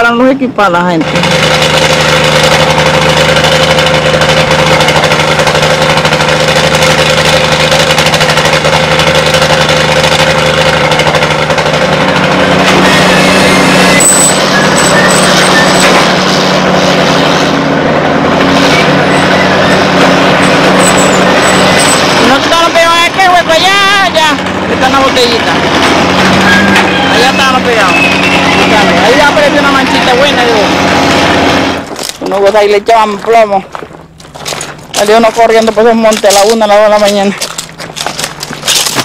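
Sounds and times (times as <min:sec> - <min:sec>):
engine-driven water pump running: 0:00.0 - 0:39.0.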